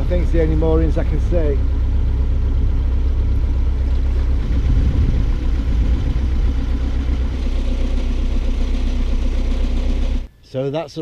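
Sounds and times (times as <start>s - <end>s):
boat engine running: 0.0s - 10.3s.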